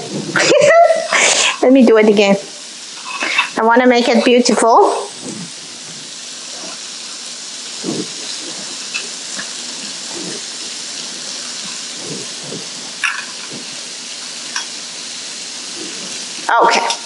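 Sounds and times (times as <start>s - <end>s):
tofu sizzling in oil: 0.3s - 17.0s.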